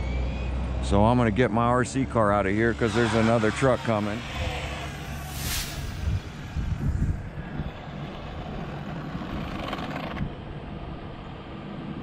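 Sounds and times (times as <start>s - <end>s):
truck traffic rumble: 0.0s - 12.0s.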